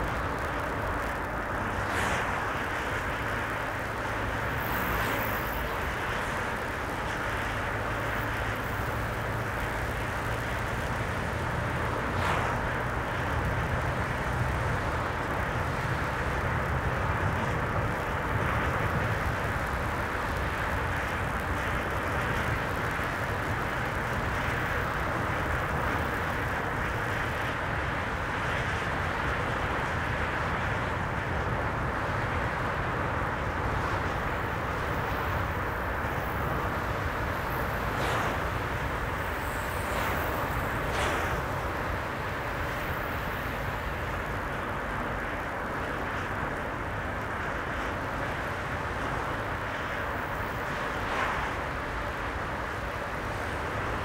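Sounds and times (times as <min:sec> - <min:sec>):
car driving at highway speed: 0:00.0 - 0:54.0.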